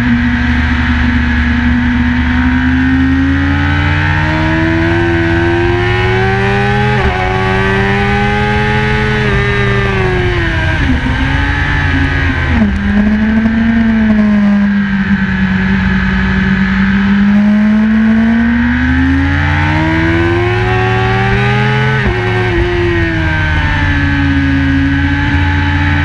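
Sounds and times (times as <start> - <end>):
motorcycle engine running hard: 0.0 - 26.0.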